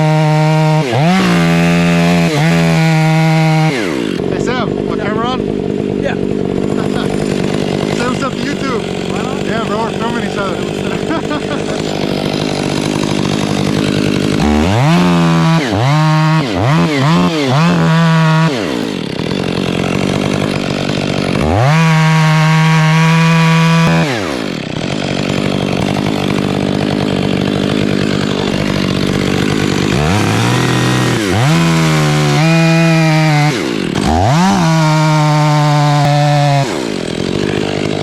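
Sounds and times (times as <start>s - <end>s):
chainsaw revving: 0.0s - 38.0s.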